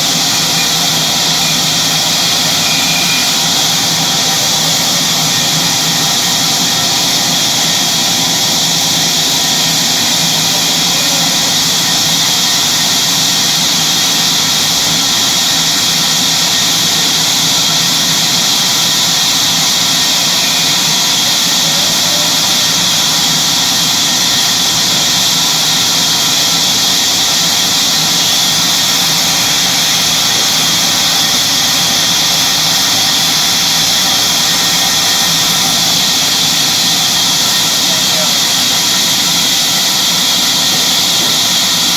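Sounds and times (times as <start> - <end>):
sawmill saw whining: 0.0 - 41.9.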